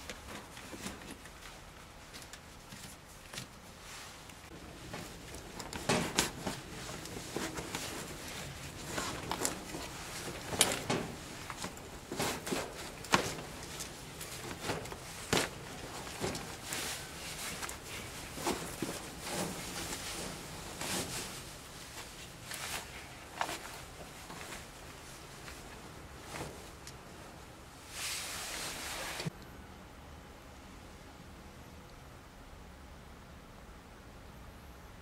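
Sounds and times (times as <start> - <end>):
rustling and scraping of insulation: 0.0 - 29.3.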